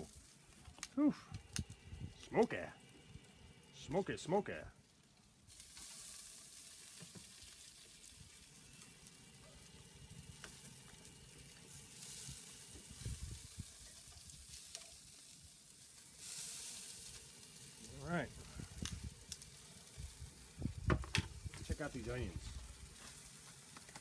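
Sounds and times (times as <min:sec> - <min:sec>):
chicken sizzling on grill: 0:00.0 - 0:24.0.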